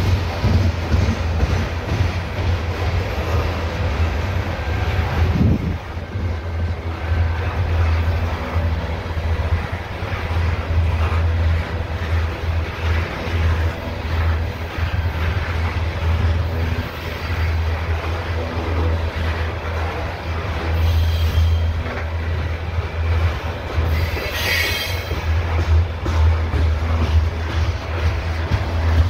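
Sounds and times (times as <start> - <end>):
low drone: 0.0 - 29.0
steel wheels rumbling on rail: 0.0 - 29.0.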